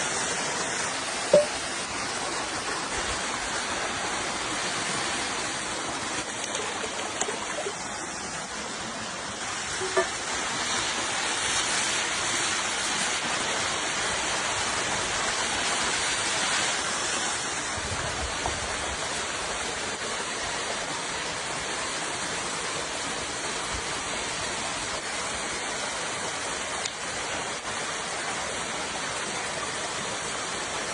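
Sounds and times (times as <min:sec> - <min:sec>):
river water rushing and splashing: 0:00.0 - 0:30.9.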